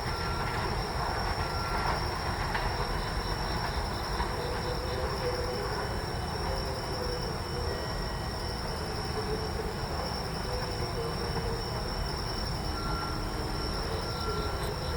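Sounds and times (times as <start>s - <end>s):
electric train rumble: 0.0s - 14.9s
insects chirping: 0.0s - 14.9s.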